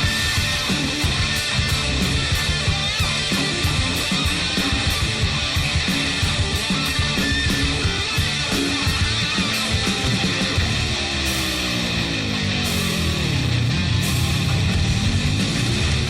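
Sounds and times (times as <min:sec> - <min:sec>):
distorted electric guitar: 0:00.0 - 0:16.0
heavy rock music: 0:00.0 - 0:16.0
steady drum beat: 0:00.0 - 0:16.0.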